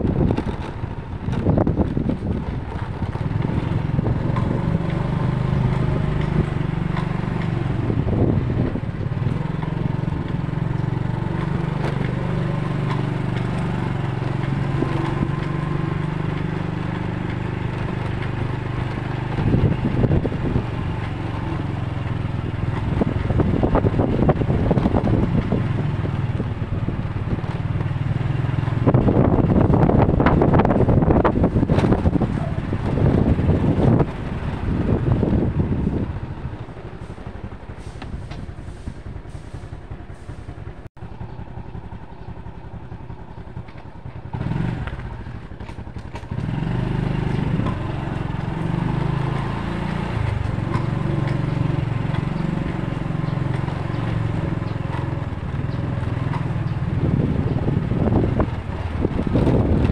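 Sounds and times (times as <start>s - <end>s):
wind noise on microphone: 0.0s - 40.9s, 44.1s - 59.9s
traffic: 0.0s - 59.9s
vehicle engine hum: 0.0s - 59.9s.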